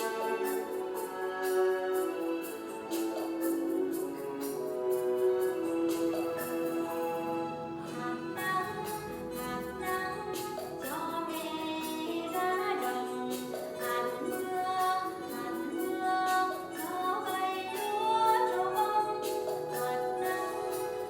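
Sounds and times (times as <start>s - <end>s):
children's song with percussion: 0.0s - 21.0s.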